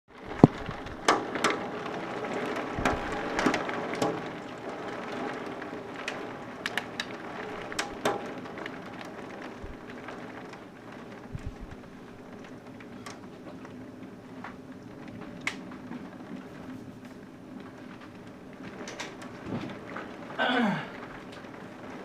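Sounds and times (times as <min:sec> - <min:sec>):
loud raindrops hitting: 0:00.1 - 0:22.0
rain on a hard surface: 0:00.1 - 0:22.0.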